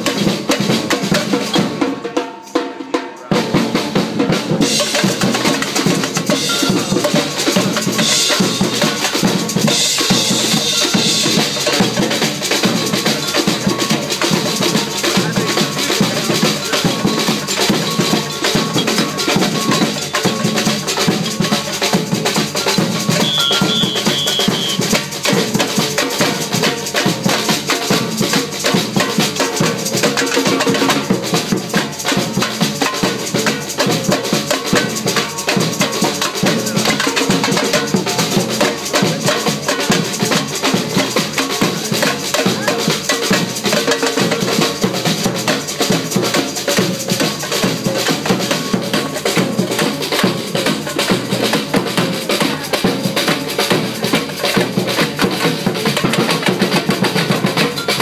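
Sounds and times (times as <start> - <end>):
drums timbales and cymbals: 0.0 - 58.0.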